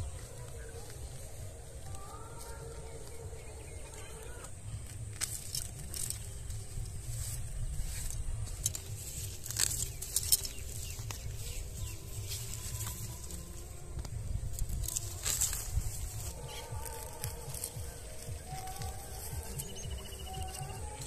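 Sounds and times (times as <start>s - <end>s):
dry leaves and soil crackling: 0.0s - 21.0s
steady low rumble: 0.0s - 21.0s.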